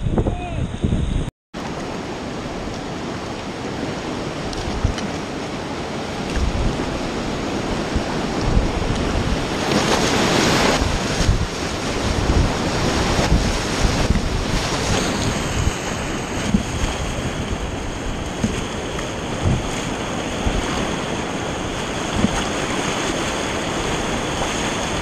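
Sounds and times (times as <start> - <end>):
wind buffeting microphone: 0.0 - 25.0
river water rushing: 1.6 - 25.0
water splashing around kayak: 1.6 - 25.0.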